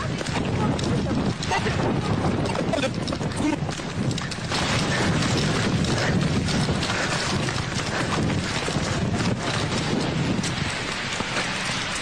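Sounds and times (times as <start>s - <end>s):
dense rumble: 0.0s - 12.0s
wind buffeting microphone: 0.0s - 12.0s.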